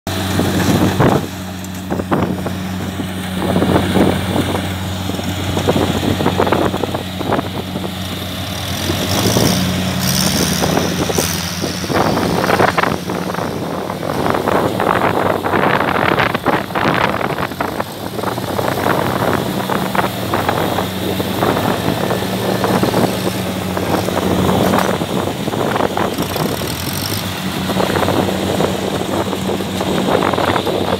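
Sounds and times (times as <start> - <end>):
combine harvester diesel engine: 0.1 - 30.9.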